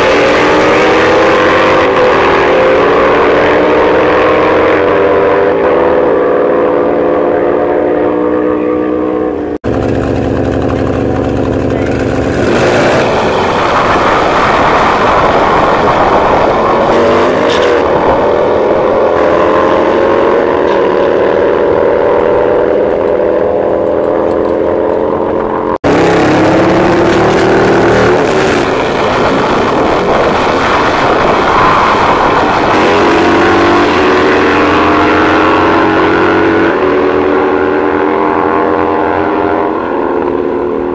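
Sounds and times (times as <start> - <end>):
motorcycles accelerating hard: 0.0 - 8.2, 9.2 - 40.9.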